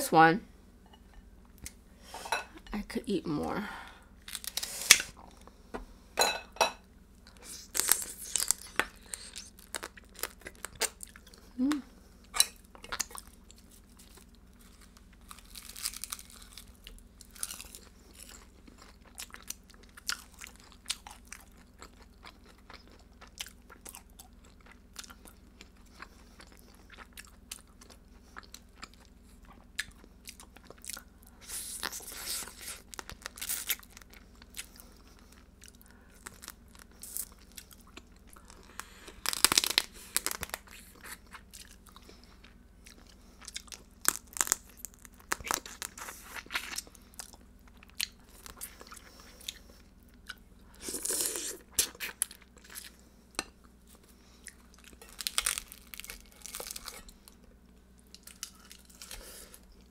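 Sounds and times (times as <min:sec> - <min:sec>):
close-miked chewing and crunching: 0:07.2 - 0:59.9.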